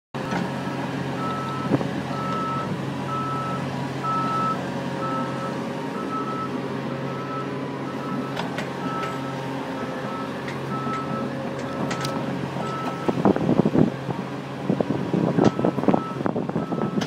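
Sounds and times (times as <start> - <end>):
excavator diesel engine drone: 0.2 - 17.0.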